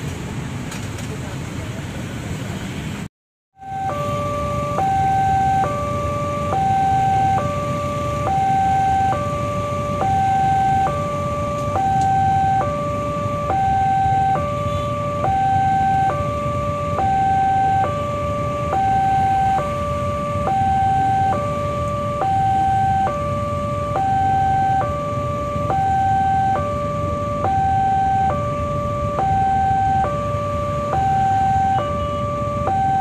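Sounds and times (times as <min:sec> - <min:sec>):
low rumble of traffic: 0:00.0 - 0:33.0
level crossing two-tone alarm: 0:03.6 - 0:33.0.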